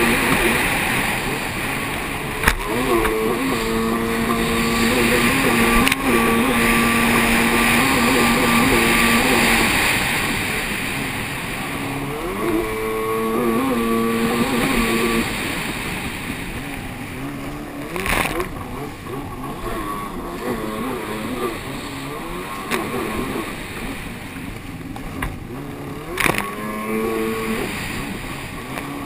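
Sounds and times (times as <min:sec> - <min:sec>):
jet ski engine running hard: 0:00.0 - 0:29.0.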